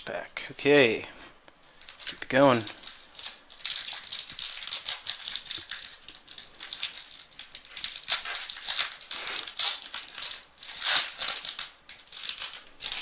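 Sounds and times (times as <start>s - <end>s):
plastic packaging crinkling: 1.6s - 13.0s.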